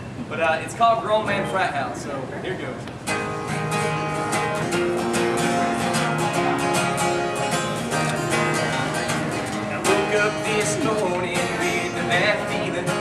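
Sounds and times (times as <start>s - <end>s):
acoustic guitars strumming: 0.7s - 2.0s, 3.0s - 13.0s.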